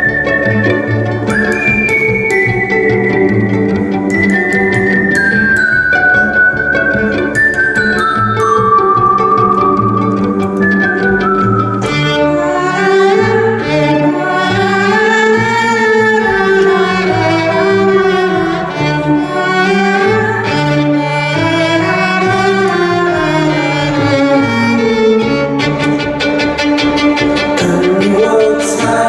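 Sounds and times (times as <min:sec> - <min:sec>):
bowed violin melody: 0:00.0 - 0:29.0.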